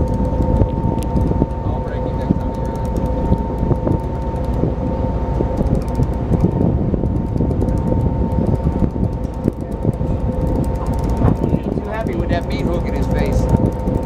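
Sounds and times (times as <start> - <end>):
boat machinery drone: 0.0 - 14.0.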